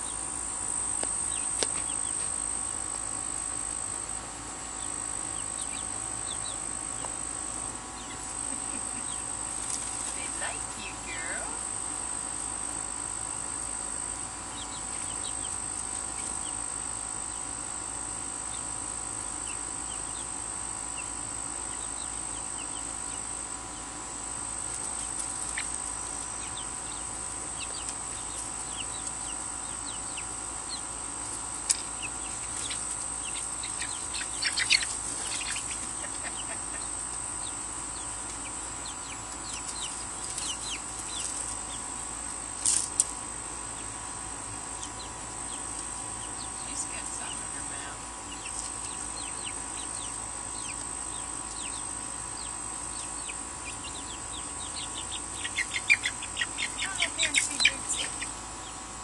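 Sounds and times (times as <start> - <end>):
chicks peeping and chirping: 0.0 - 59.0
high insect buzz: 0.0 - 59.0.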